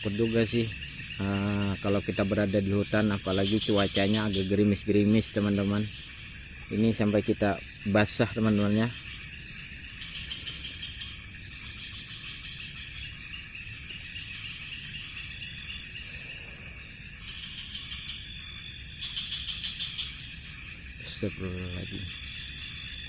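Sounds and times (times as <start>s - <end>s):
fast pulsed chirping: 0.0s - 23.0s
insect chorus buzzing: 0.0s - 23.0s.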